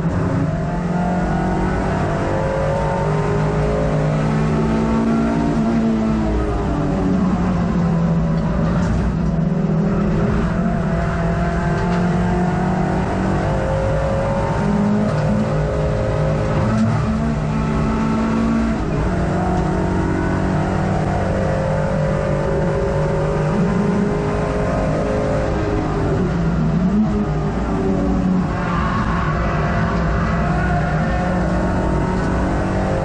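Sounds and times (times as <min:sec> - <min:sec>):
race car engine revving: 0:00.0 - 0:33.0
road and wind noise: 0:00.0 - 0:33.0.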